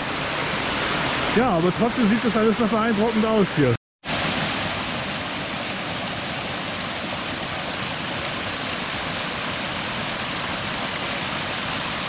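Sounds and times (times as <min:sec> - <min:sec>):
waterfall pouring over rocks: 0:00.0 - 0:12.0.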